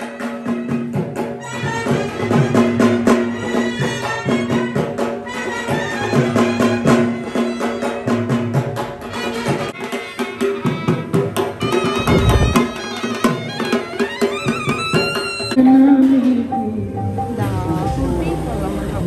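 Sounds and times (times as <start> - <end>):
clarinet melody: 0.0 - 8.1, 9.1 - 19.0
drumbeat: 0.0 - 19.0.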